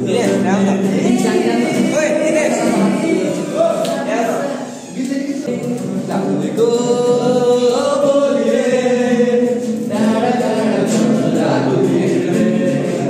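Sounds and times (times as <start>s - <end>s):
acoustic guitar: 0.0s - 13.0s
young men singing together: 0.0s - 13.0s.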